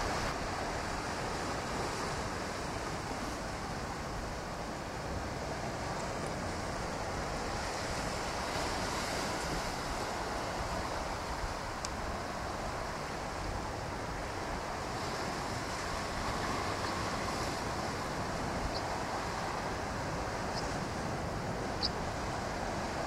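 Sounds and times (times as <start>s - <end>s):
ocean surf breaking on rocks: 0.0s - 23.0s.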